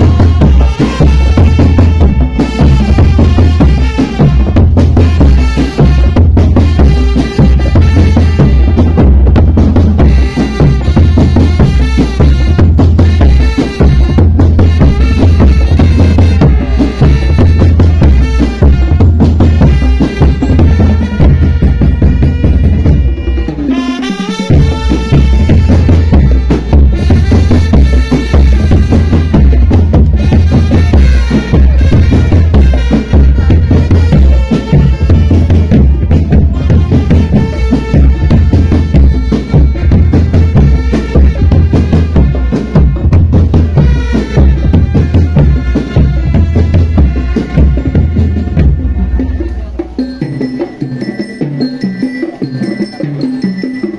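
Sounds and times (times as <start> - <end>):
drum band playing: 0.0 - 53.9
heavy drum beat: 0.0 - 53.9.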